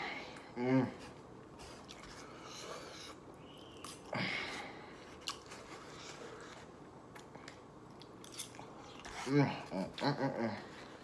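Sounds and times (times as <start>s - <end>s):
person chewing food: 1.0s - 11.0s.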